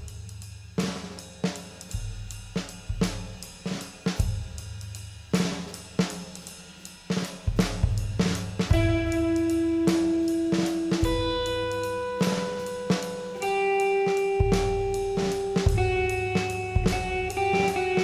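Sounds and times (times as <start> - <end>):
rock drum kit: 0.0 - 18.0.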